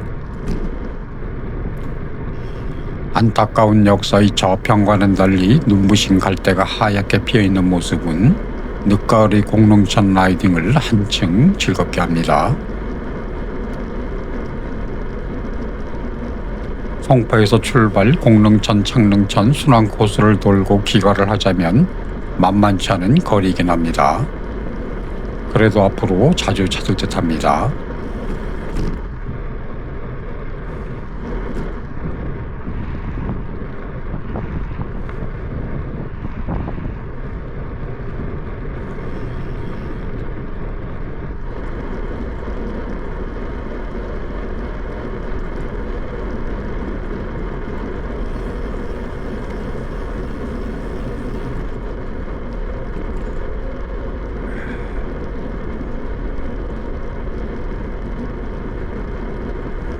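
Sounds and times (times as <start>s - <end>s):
wind and tyre noise: 0.0s - 59.9s.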